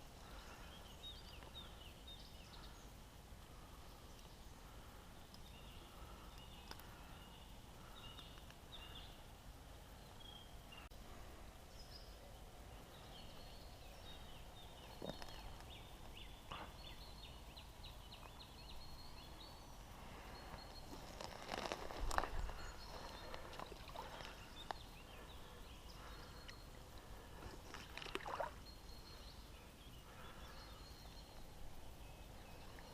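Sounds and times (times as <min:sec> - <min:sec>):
small birds chirping: 0:00.0 - 0:11.0, 0:11.6 - 0:32.9
low outdoor background: 0:00.0 - 0:32.9.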